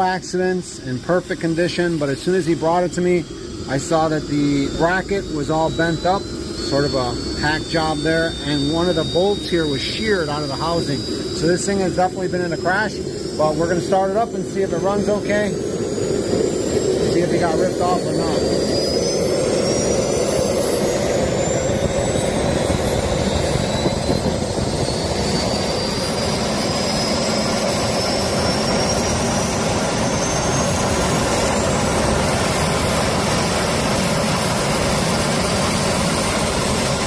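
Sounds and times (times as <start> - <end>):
jet engine roaring: 0.0 - 37.0
jet engine whine rising: 0.0 - 37.0.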